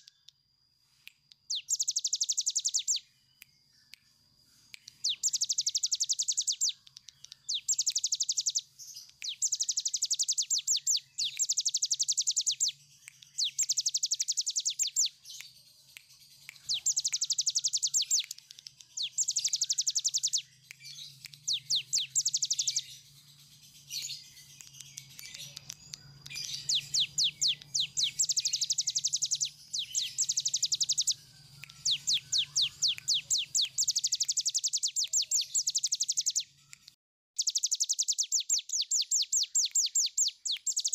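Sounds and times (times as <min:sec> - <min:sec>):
bird singing rapid trill: 0:01.5 - 0:04.0, 0:04.6 - 0:36.6, 0:37.4 - 0:40.9.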